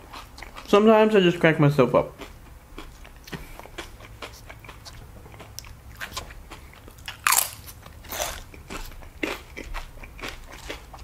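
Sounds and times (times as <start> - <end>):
tortilla chip crunching: 2.2 - 11.0.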